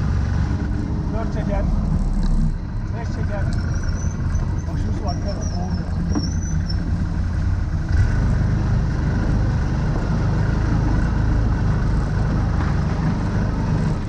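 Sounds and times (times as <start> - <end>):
engine running under load: 0.0 - 14.0.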